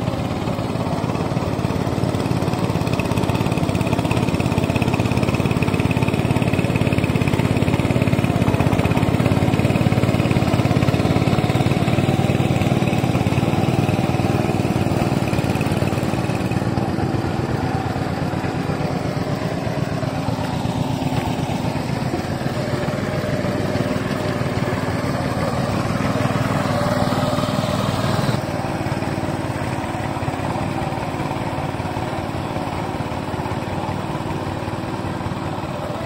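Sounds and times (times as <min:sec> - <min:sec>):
plough blade churning mud: 0:00.0 - 0:36.0
small tiller engine running: 0:00.0 - 0:36.0.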